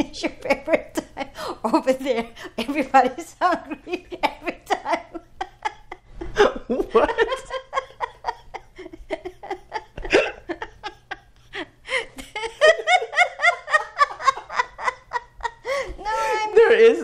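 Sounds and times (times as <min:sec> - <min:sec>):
man and woman laughing: 0:00.9 - 0:16.6.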